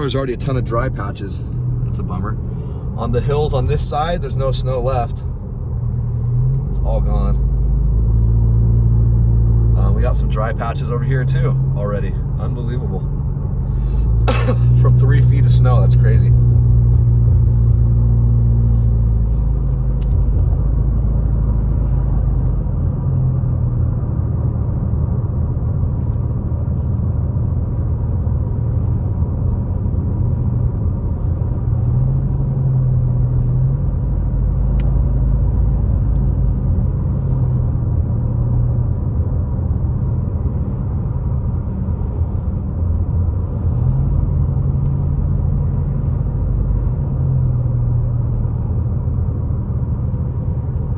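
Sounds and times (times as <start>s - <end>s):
car engine and tyre drone: 0.0s - 50.9s.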